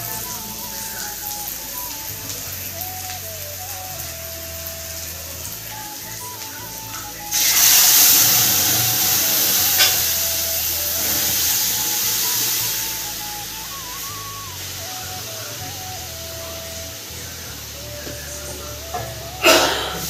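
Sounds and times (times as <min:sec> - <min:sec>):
background music: 0:00.0 - 0:20.0
hot oil sizzling in dal: 0:00.0 - 0:20.0
loud hissing sizzle: 0:00.0 - 0:20.0.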